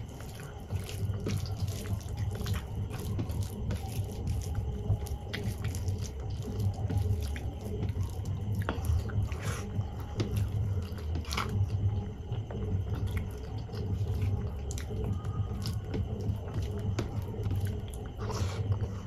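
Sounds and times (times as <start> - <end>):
fingers squishing food: 0.0 - 19.0
wet chewing: 0.0 - 19.0.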